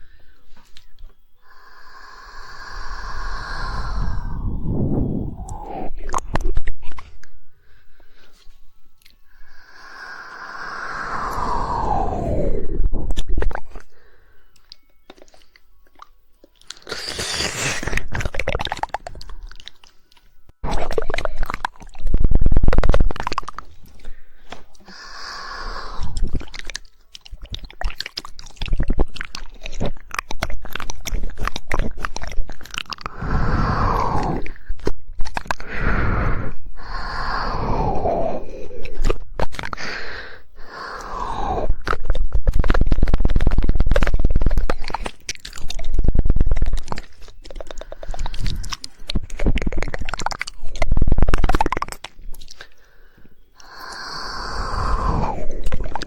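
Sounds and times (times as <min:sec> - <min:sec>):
tongue clicking: 0:00.0 - 0:07.4, 0:09.0 - 0:52.9, 0:53.6 - 0:56.0
wet mouth noises: 0:00.0 - 0:56.0.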